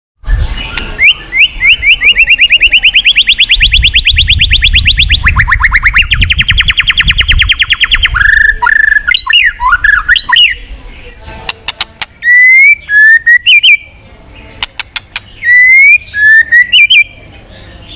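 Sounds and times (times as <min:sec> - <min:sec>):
bird singing trills: 0:00.2 - 0:17.9.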